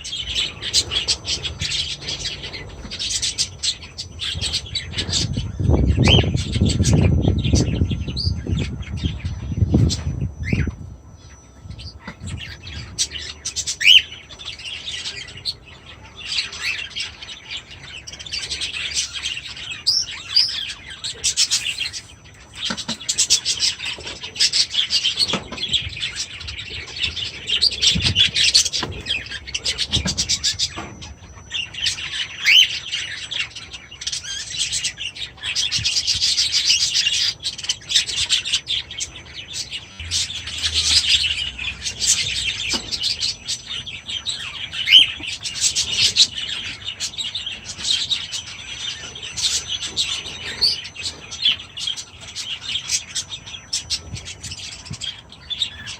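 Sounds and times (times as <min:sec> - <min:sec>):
birds chirping and chattering: 0:00.0 - 0:55.9.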